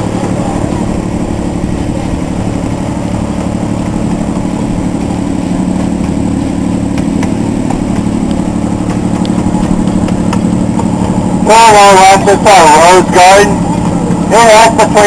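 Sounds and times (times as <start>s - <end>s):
small train engine pulsing: 0.0s - 15.0s.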